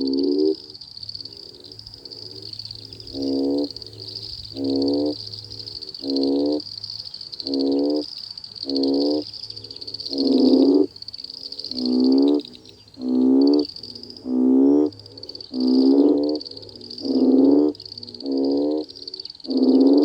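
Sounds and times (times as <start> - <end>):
frog giving pitched calls: 0.0 - 0.8, 1.4 - 6.7, 7.4 - 20.0
fainter frog calls: 0.0 - 20.0.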